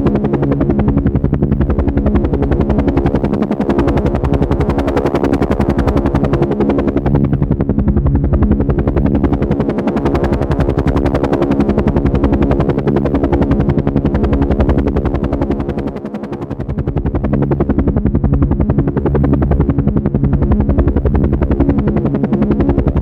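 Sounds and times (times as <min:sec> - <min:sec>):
helicopter engine drone: 0:00.0 - 0:23.0
helicopter rotor blades chopping: 0:00.0 - 0:23.0.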